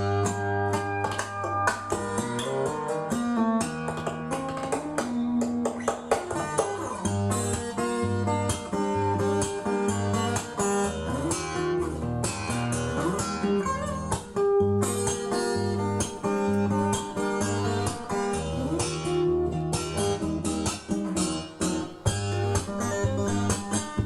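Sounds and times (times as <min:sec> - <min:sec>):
guitar-led music with bass and beats: 0:00.0 - 0:24.0.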